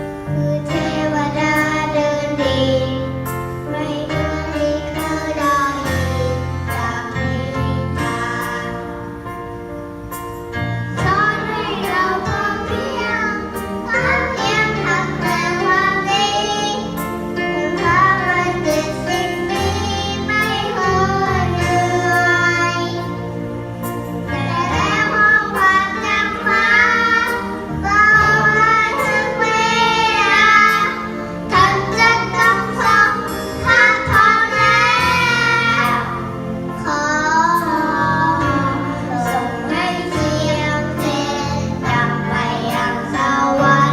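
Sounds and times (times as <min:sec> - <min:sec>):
instrumental backing music: 0:00.0 - 0:43.9.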